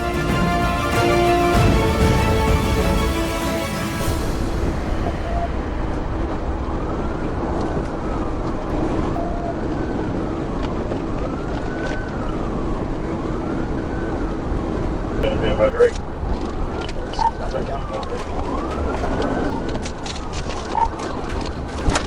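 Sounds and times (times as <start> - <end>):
emergency siren wailing: 0.0 - 22.0
traffic rumble: 4.0 - 22.0.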